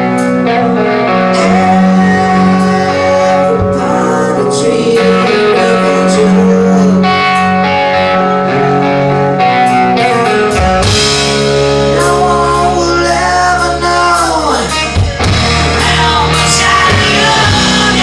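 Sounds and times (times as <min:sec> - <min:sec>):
bass guitar: 0:00.0 - 0:18.0
electric guitar: 0:00.0 - 0:18.0
hard rock band playing live: 0:00.0 - 0:18.0.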